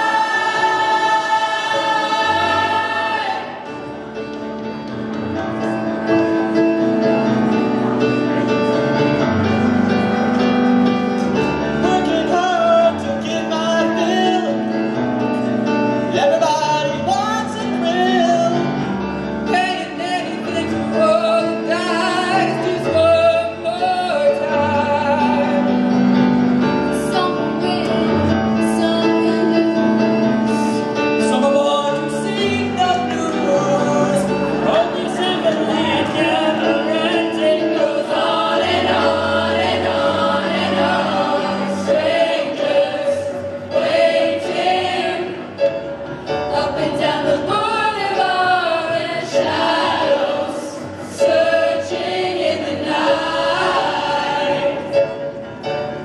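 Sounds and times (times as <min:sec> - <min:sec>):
grand piano chords: 0:00.0 - 0:56.0.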